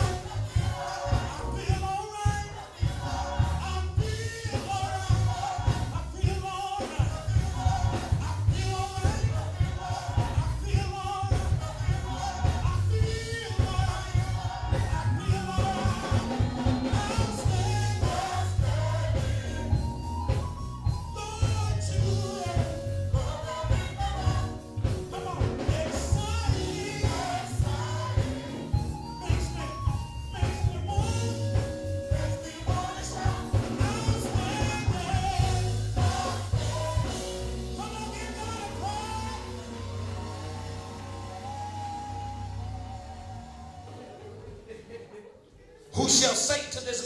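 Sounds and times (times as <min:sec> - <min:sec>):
gospel singers with band: 0:00.0 - 0:47.0.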